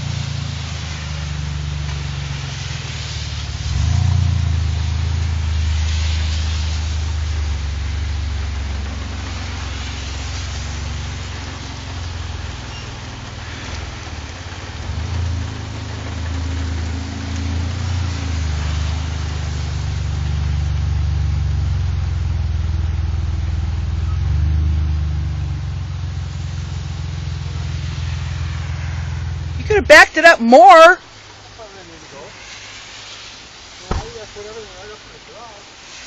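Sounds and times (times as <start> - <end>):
van engine running: 0.0 - 30.0
steady rain: 0.0 - 36.0
wind hiss: 0.0 - 36.0.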